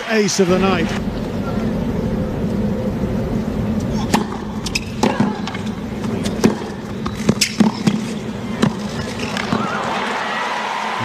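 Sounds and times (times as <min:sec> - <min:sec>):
crowd murmur: 0:00.5 - 0:11.0.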